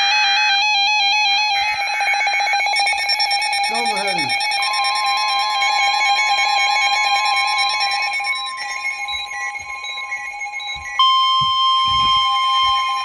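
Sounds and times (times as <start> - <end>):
two-tone alert signal: 1.7 - 13.0.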